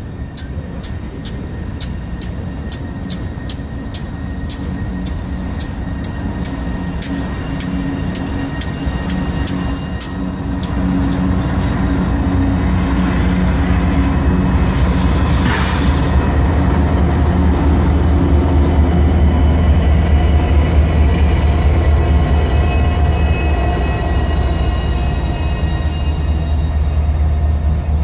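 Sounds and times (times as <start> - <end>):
diesel locomotive engines droning: 0.0 - 28.0.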